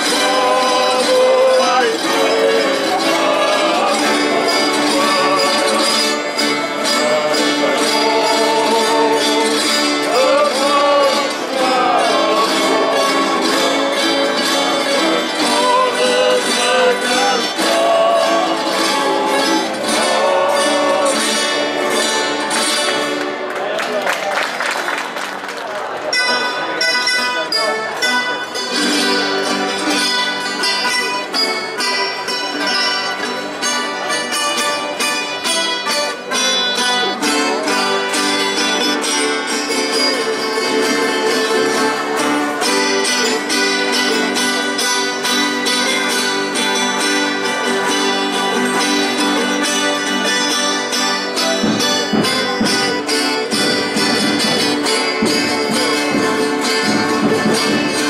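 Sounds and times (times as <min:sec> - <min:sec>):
guitars strumming folk tune: 0:00.0 - 0:58.0.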